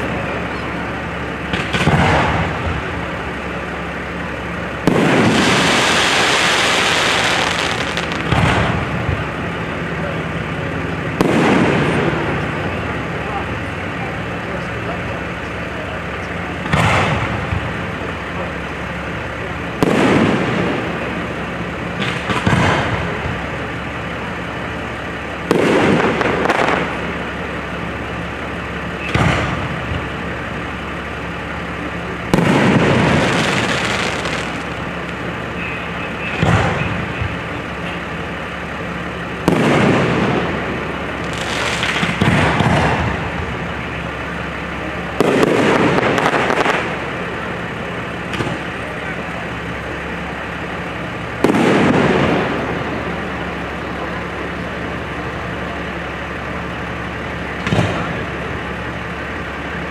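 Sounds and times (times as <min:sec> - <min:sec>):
firework shells booming: 0:00.0 - 0:14.4, 0:16.5 - 0:55.5, 0:57.3 - 0:59.6.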